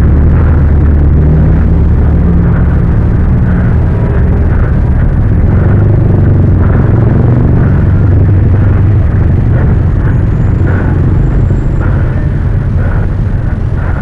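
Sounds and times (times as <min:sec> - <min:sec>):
loud low traffic rumble: 0:00.0 - 0:14.0
low hum: 0:00.0 - 0:14.0.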